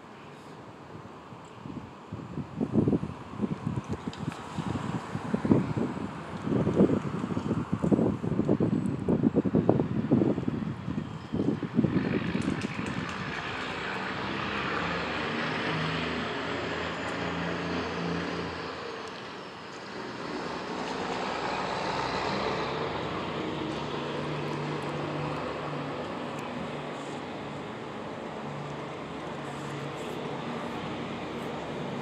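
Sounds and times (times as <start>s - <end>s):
wind buffeting microphone: 1.0s - 32.0s.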